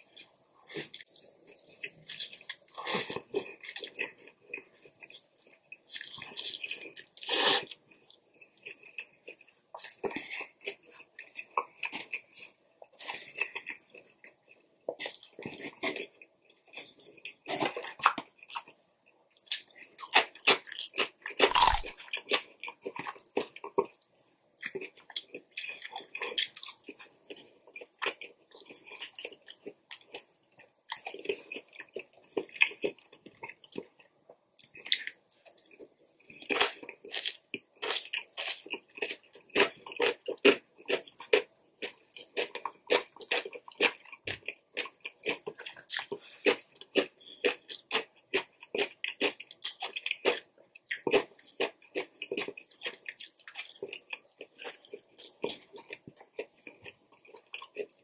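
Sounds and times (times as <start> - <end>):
close chewing and biting food: 0.0 - 58.0.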